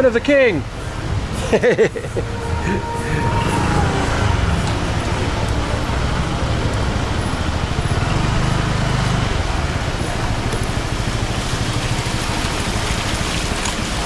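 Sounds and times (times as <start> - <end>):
constant rushing noise: 0.0 - 14.0
moped engine droning: 0.8 - 12.8.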